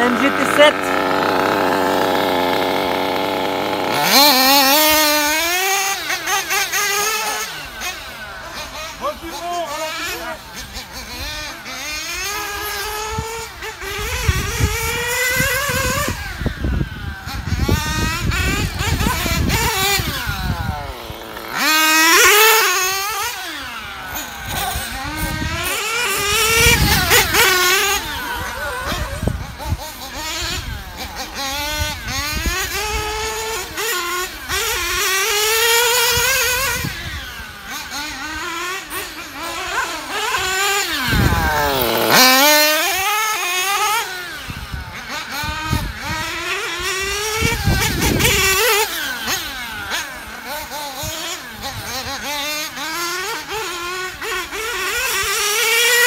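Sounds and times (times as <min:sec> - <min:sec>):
model car nitro engine revving: 0:00.0 - 0:56.0.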